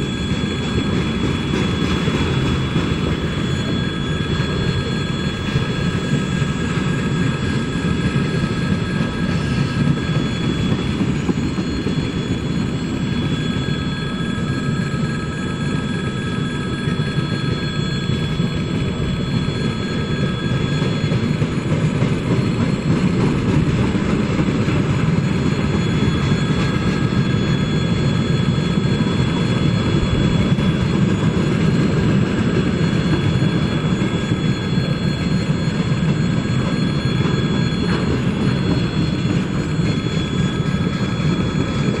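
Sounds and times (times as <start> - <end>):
high ringing tones: 0.0 - 42.0
train wheels rumbling on rails: 0.0 - 42.0.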